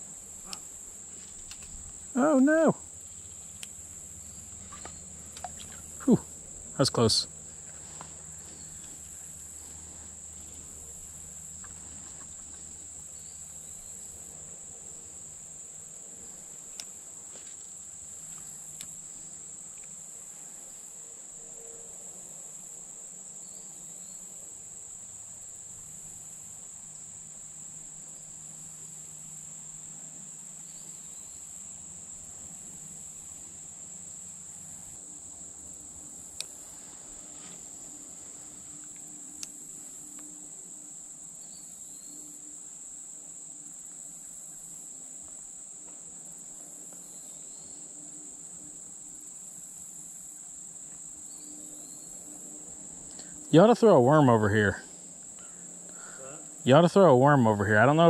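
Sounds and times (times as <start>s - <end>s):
insect chorus droning: 0.0s - 58.0s.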